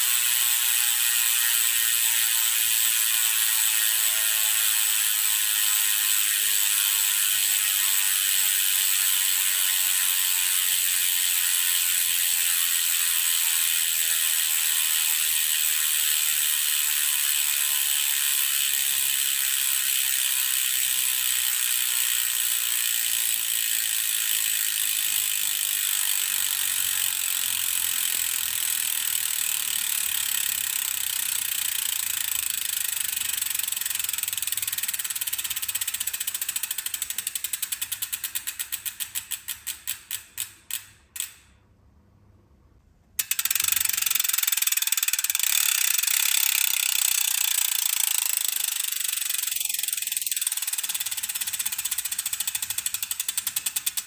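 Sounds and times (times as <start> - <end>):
bicycle freehub ratcheting: 0.0 - 41.6, 43.2 - 54.0.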